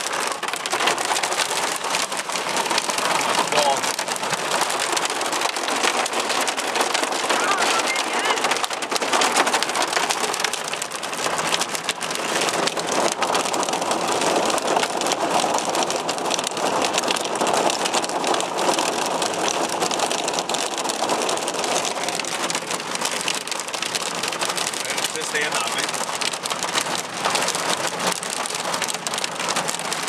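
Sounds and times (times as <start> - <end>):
hail and rain pelting a car: 0.0 - 30.0.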